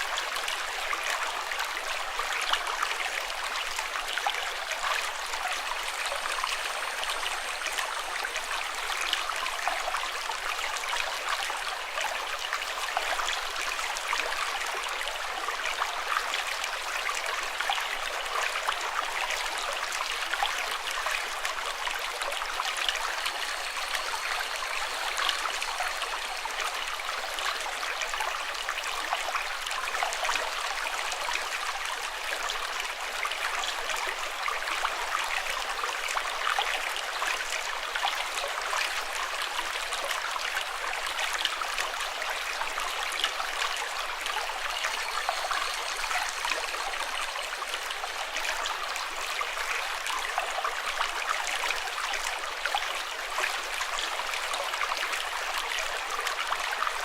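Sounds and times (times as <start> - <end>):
water flowing with splashes: 0.0 - 57.0.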